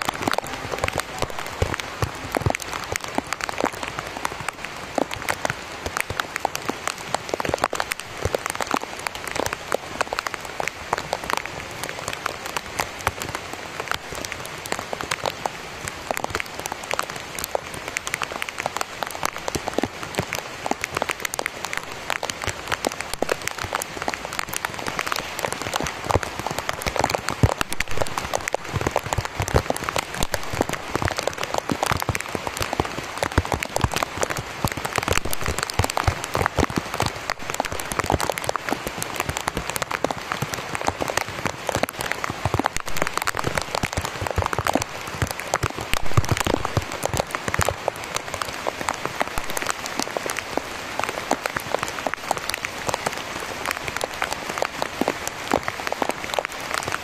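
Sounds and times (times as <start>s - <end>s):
heavy rain on vegetation: 0.0s - 57.0s.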